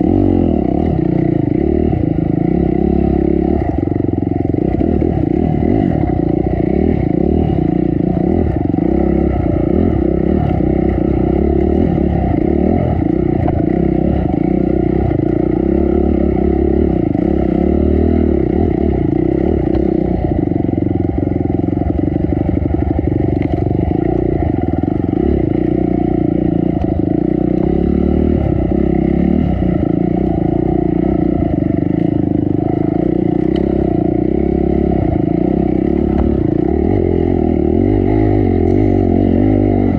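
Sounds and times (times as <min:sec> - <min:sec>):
dirt bike engine under throttle: 0:00.0 - 0:39.9
light rattling from bike: 0:00.0 - 0:39.9.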